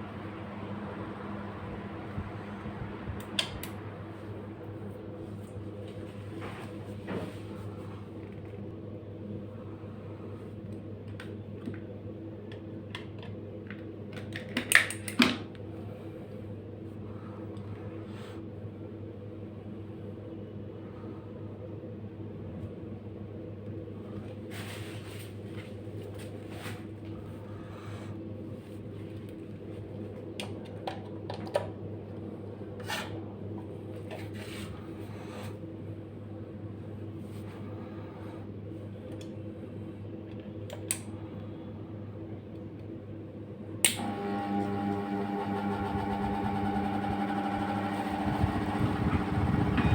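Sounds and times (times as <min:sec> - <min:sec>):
ceiling fan electrical hum: 0:00.0 - 0:49.9.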